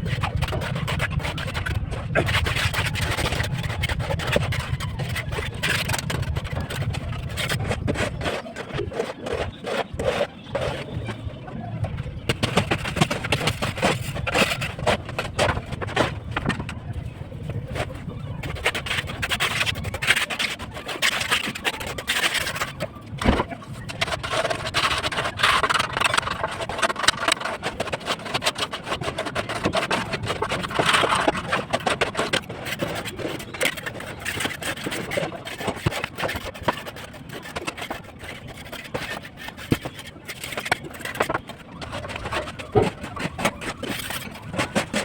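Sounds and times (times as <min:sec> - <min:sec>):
construction scraping and knocking: 0:00.0 - 0:45.0.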